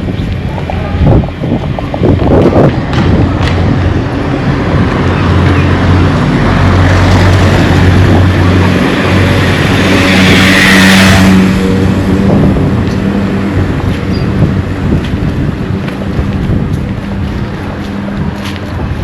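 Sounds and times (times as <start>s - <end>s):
engine humming: 0.0s - 19.0s
vehicle passing: 0.0s - 19.0s.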